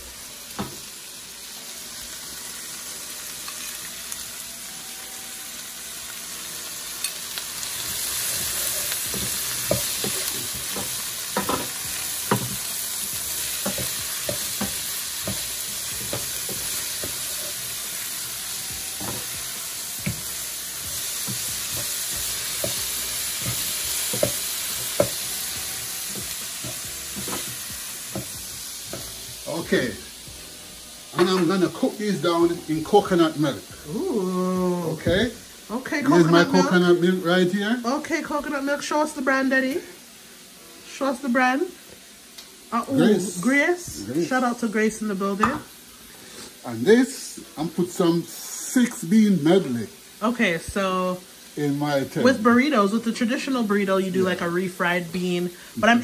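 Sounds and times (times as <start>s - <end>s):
vegetables sizzling in a pot: 0.0s - 56.0s.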